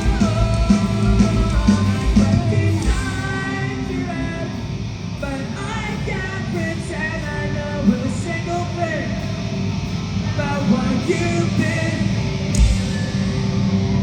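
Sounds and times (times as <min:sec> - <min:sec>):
heavy bass and drums: 0:00.0 - 0:08.2, 0:08.8 - 0:14.0
person singing: 0:00.0 - 0:09.4, 0:10.3 - 0:13.2
distorted electric guitars: 0:00.0 - 0:14.0.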